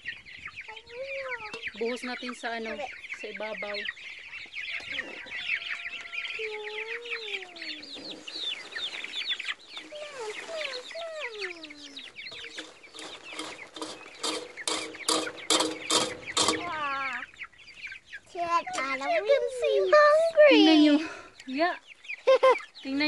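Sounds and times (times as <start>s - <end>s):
poultry peeping: 0.0s - 23.0s.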